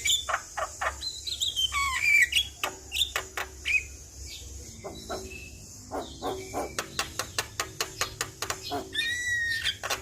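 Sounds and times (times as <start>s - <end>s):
myna bird calling: 0.0s - 10.0s.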